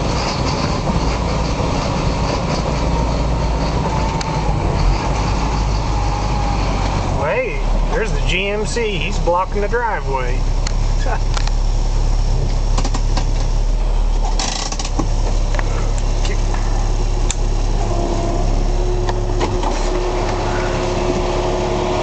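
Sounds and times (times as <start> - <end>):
steady whine: 0.0 - 22.0
truck engine droning: 0.0 - 22.0.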